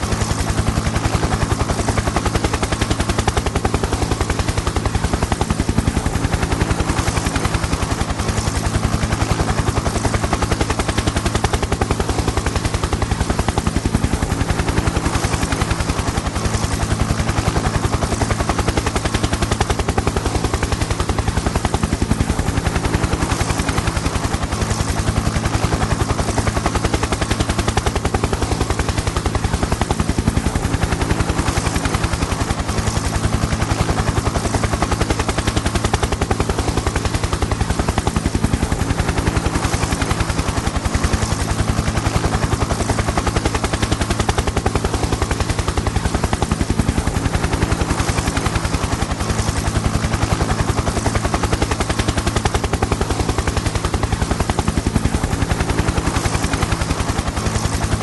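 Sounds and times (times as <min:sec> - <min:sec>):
helicopter engine drone: 0:00.0 - 0:58.0
helicopter rotor beating: 0:00.0 - 0:58.0.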